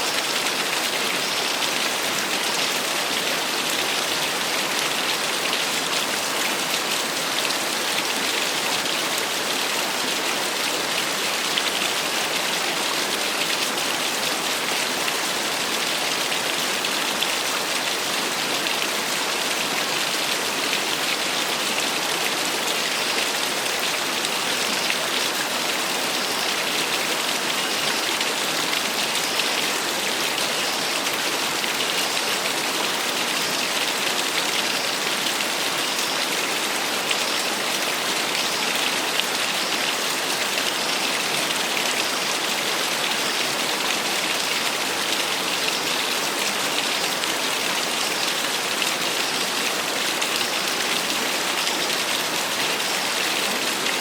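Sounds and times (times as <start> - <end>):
small waterfall rushing: 0.0 - 54.0.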